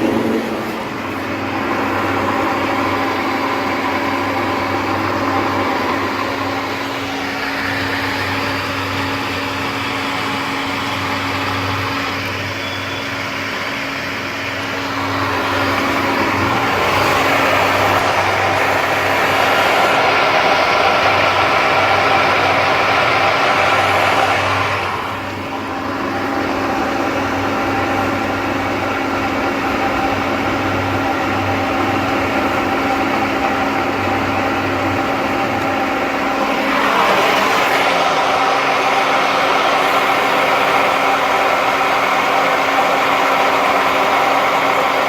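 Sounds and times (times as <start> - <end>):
motor-driven machine humming: 0.0 - 29.2, 29.8 - 45.0.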